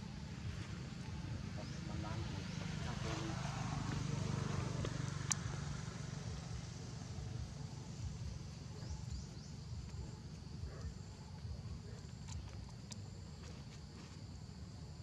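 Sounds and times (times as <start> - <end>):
low wavering rumble: 0.0 - 13.0.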